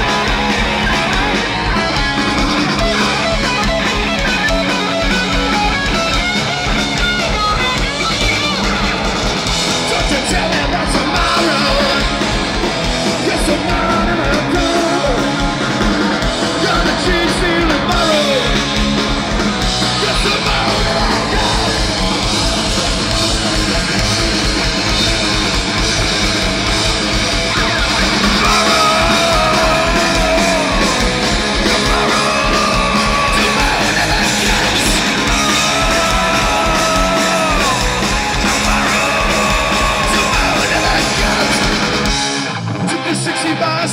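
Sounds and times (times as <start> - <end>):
shouted and sung vocals: 0.0 - 6.2, 9.6 - 15.8, 16.4 - 25.1, 27.4 - 43.9
punk rock band playing live: 0.0 - 43.9.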